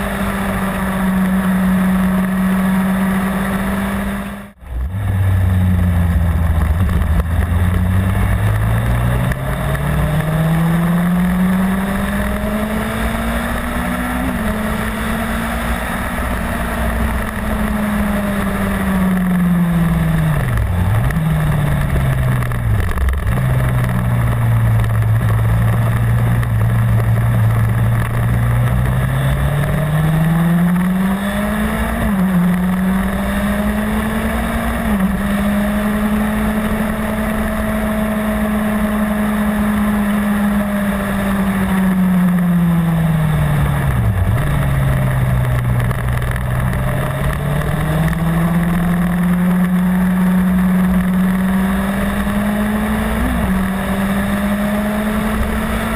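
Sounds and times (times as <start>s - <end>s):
motorcycle engine at road speed: 0.0s - 55.9s.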